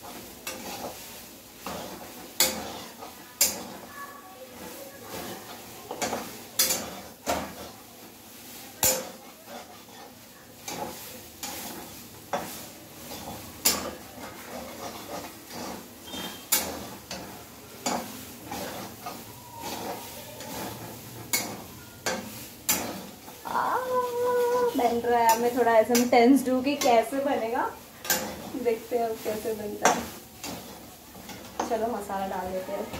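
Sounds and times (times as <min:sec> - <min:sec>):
faint frying sizzle: 0:00.0 - 0:32.9
metal spatula scraping a pan: 0:00.0 - 0:32.9.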